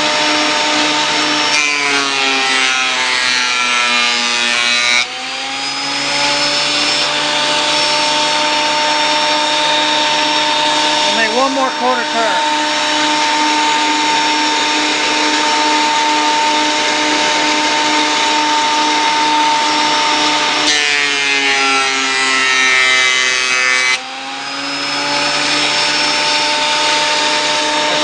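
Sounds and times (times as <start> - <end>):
surface planer whining: 0.0 - 28.0.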